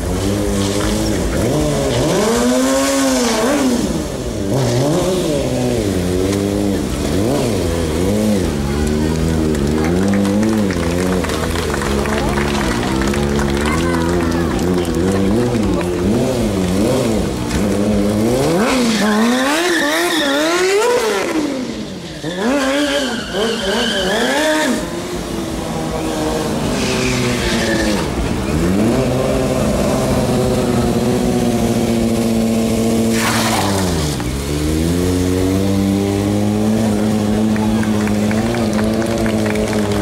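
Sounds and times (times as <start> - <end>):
high-revving engine blips: 0.0 - 40.0.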